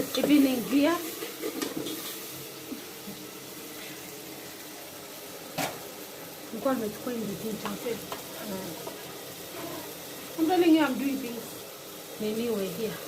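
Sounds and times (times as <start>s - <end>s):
tomatoes sizzling in a frying pan: 0.0s - 13.0s.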